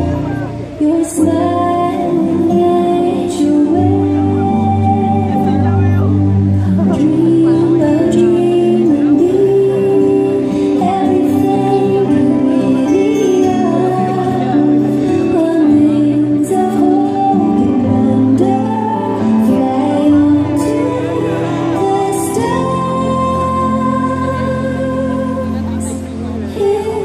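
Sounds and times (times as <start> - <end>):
show music with singing: 0.0 - 27.0.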